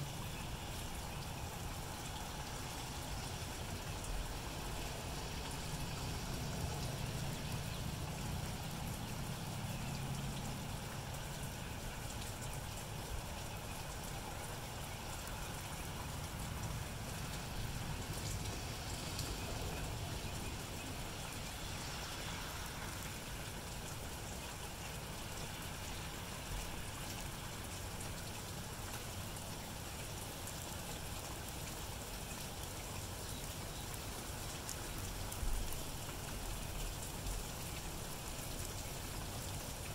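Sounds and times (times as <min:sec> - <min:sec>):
rain on grass and pavement: 0:00.0 - 0:39.9.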